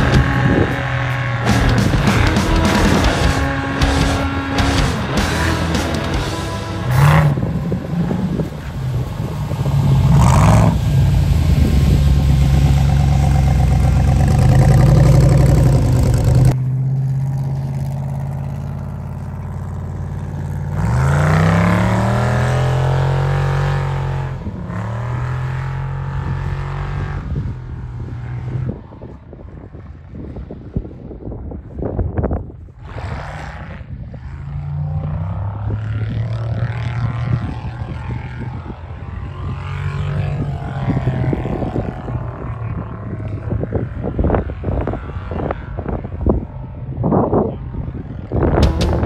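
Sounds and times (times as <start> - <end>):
buggy engine revving: 0.0 - 28.8, 32.8 - 47.4, 48.3 - 49.0.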